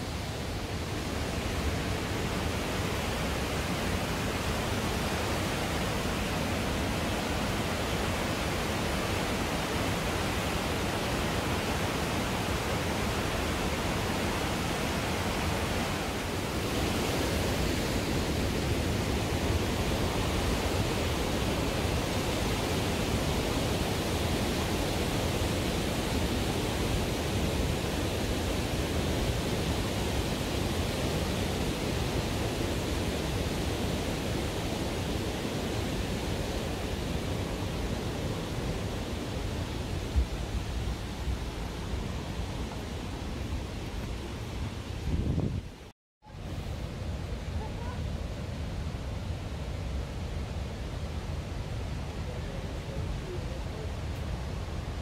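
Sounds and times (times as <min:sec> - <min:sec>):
waterfall rushing: 0:00.0 - 0:45.1
white-water creek: 0:00.0 - 0:55.0.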